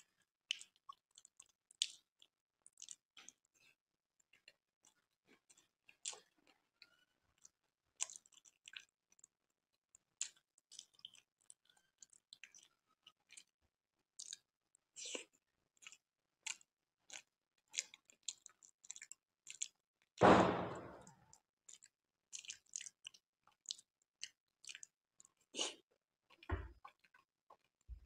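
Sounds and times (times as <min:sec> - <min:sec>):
mouth chewing smacks and clicks: 0:00.5 - 0:13.6, 0:14.2 - 0:19.8, 0:21.7 - 0:27.9.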